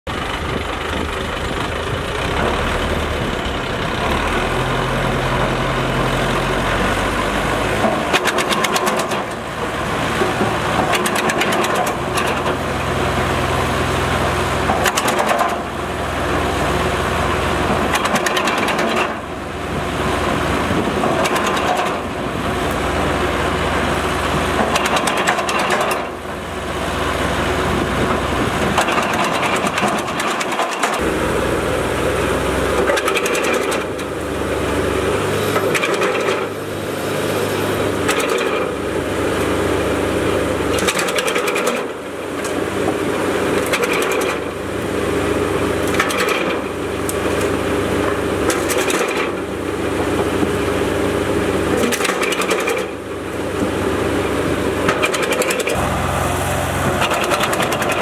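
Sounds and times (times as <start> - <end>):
tractor engine: 0.0 - 58.0
wood chipper running: 0.0 - 58.0.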